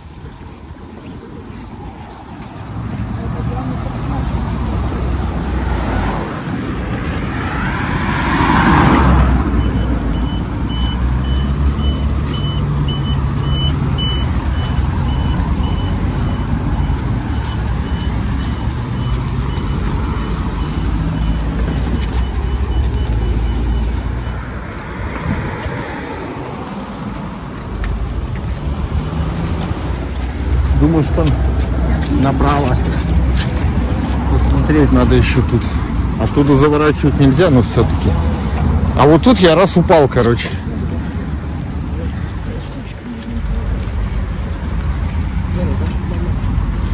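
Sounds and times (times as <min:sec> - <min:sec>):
road traffic: 0:00.0 - 0:46.9
vehicle passing: 0:00.0 - 0:46.9.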